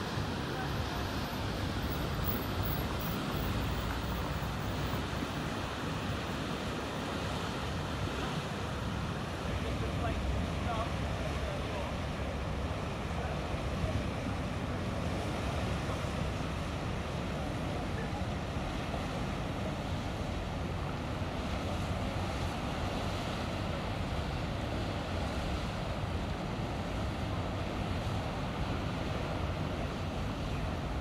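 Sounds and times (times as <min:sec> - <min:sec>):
boat engine low rumble: 0:00.0 - 0:31.0
water wash: 0:00.0 - 0:31.0.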